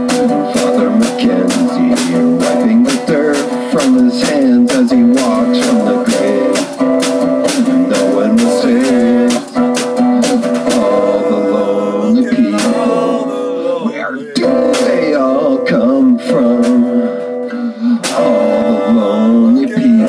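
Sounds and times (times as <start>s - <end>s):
acoustic guitar strumming: 0.0s - 20.0s
man singing: 0.0s - 20.0s.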